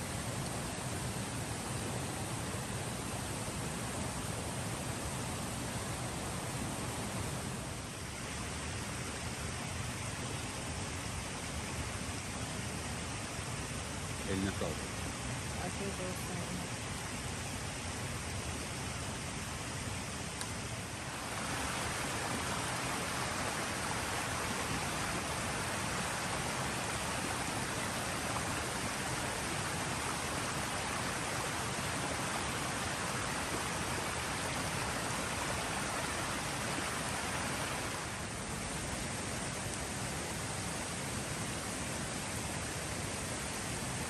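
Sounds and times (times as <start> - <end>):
forest creek rushing: 0.0 - 44.0.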